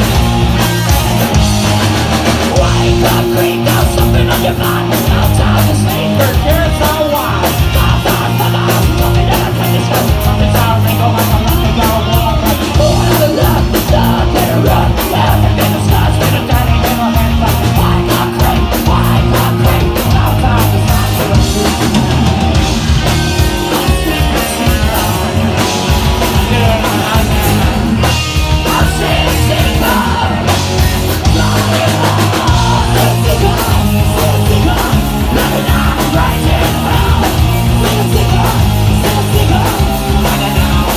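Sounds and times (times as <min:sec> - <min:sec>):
rock band playing: 0:00.0 - 0:40.9
singer shouting and singing: 0:02.4 - 0:40.9.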